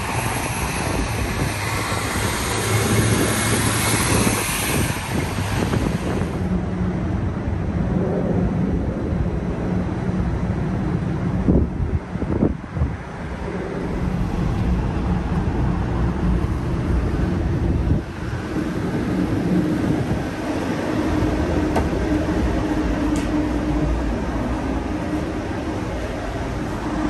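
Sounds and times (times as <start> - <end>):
street ambience rumble: 0.0 - 27.0
streetcar electrical hum: 0.0 - 27.0.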